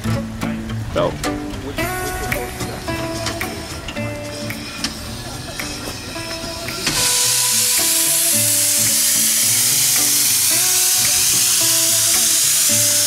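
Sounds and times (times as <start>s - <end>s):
steam locomotive hissing steam: 1.8s - 13.0s.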